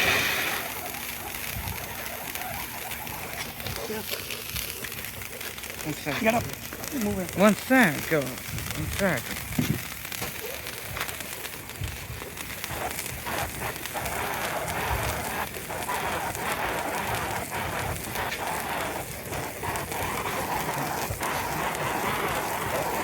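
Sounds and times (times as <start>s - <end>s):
firework crackling hiss: 0.0s - 23.0s.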